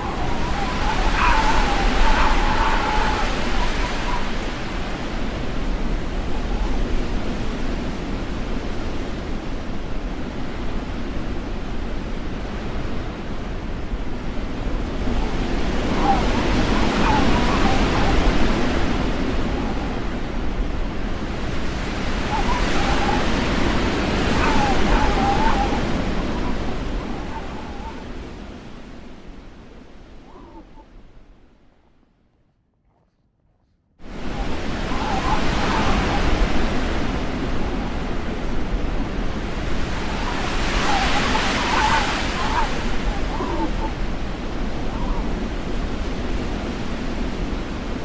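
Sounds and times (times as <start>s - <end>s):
wind buffeting microphone: 0.0s - 31.6s, 34.0s - 48.0s.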